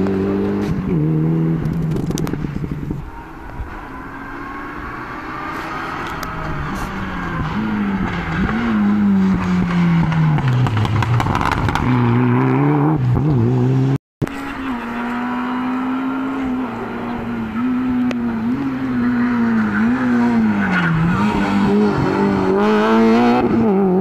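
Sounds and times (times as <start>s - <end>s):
rally car engine accelerating: 0.0s - 3.0s, 3.7s - 24.0s
second rally car engine approaching: 0.0s - 24.0s.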